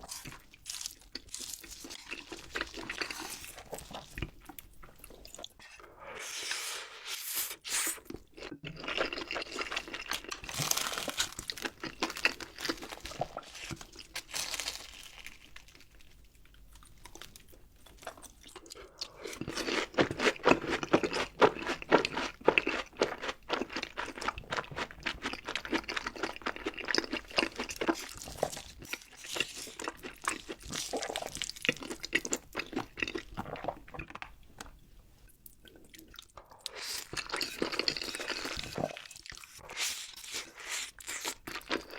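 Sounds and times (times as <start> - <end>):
crunchy chewing of fried food: 0.0 - 5.6, 7.4 - 41.9.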